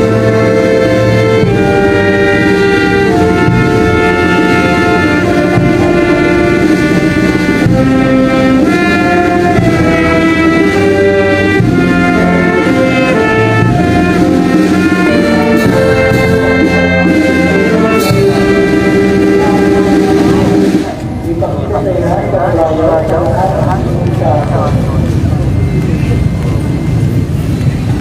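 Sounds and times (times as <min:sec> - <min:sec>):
brass band playing slow melody: 0:00.0 - 0:26.9.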